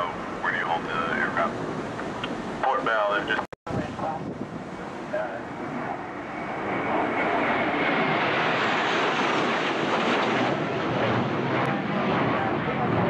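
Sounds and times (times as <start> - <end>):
jet passing low: 0.0 - 13.0.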